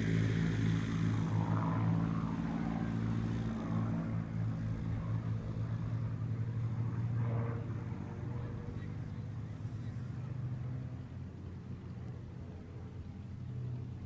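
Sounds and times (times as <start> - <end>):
aircraft engine deep drone: 0.0 - 14.0.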